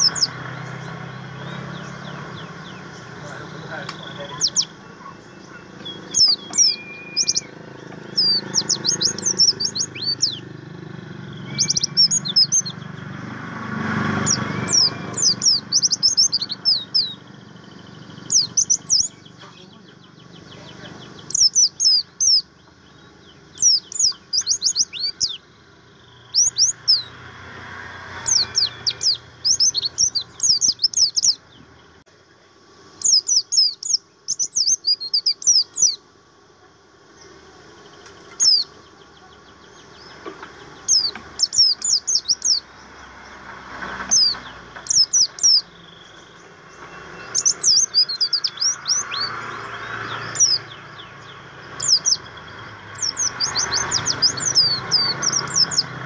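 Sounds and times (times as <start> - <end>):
bird chirping: 0.0 - 32.1, 32.9 - 36.2, 37.0 - 56.0.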